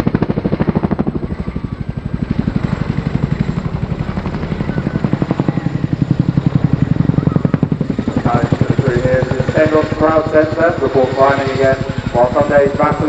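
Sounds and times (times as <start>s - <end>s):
helicopter rotor blade slap: 0.0s - 13.0s.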